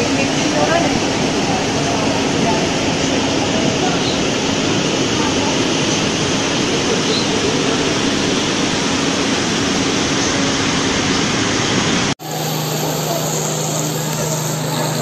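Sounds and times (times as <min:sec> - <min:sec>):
floodwater rushing down a street: 0:00.0 - 0:15.0
steady rush with low hum: 0:00.0 - 0:15.0.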